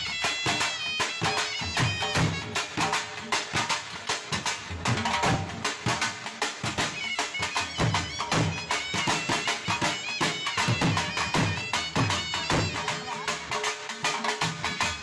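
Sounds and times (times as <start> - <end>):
wind instrument melody: 0.0 - 4.1, 6.6 - 15.0
fast drum beat: 0.0 - 15.0.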